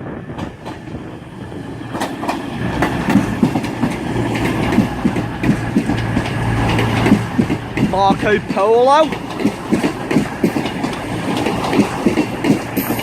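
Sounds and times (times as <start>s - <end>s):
train wheels clicking over rail joints: 0.3s - 13.0s.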